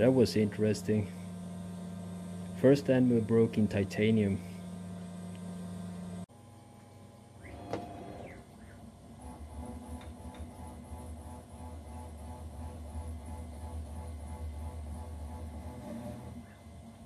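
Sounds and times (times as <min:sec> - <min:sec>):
cnc router motors humming: 0:00.0 - 0:17.0.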